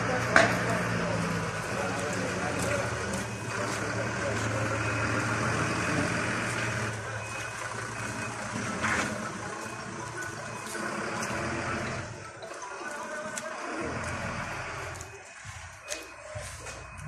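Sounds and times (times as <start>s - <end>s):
fire engine motor humming: 0.0s - 17.0s
steady background noise: 0.0s - 17.0s.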